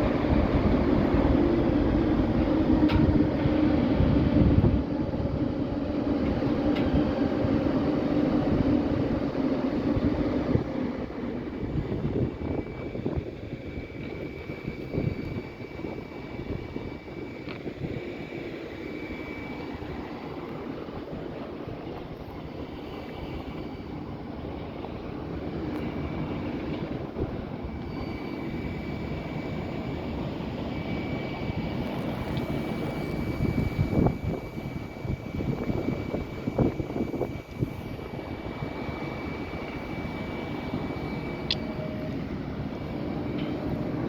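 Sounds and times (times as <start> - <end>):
electric train rumbling: 0.0 - 44.0
high whine: 0.0 - 44.0.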